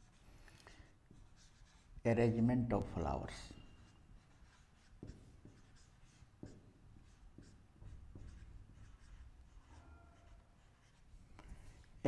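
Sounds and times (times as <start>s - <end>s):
marker writing on whiteboard: 0.0s - 12.0s.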